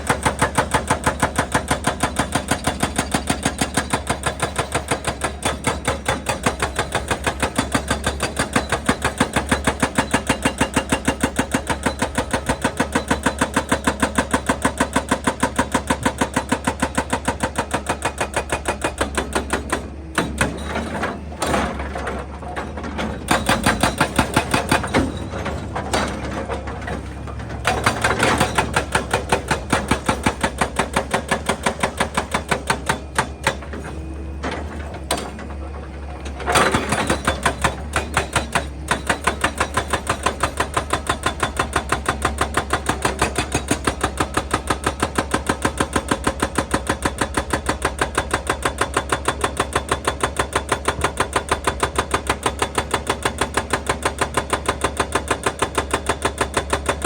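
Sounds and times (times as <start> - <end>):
excavator engine running: 0.0 - 57.0
hydraulic breaker hammering rock: 0.0 - 57.0.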